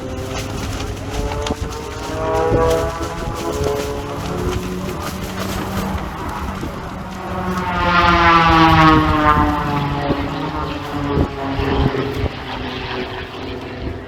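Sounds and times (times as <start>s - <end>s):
propeller airplane flying past: 0.0s - 14.0s.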